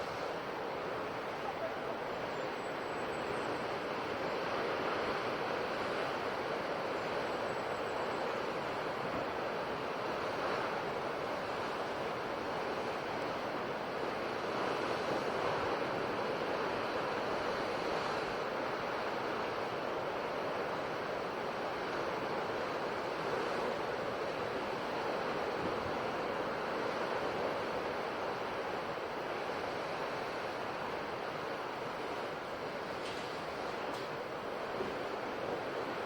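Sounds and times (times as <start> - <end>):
ocean waves breaking on shore: 0.0 - 36.0.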